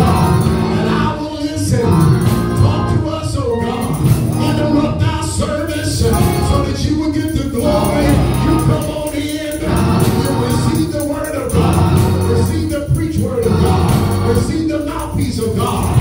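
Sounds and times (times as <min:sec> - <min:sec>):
voices singing gospel music: 0:00.0 - 0:16.0.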